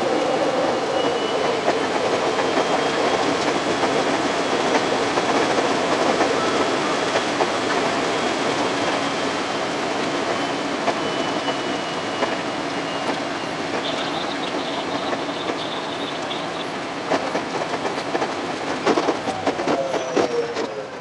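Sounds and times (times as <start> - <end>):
train wheel and track rush: 0.0 - 21.0.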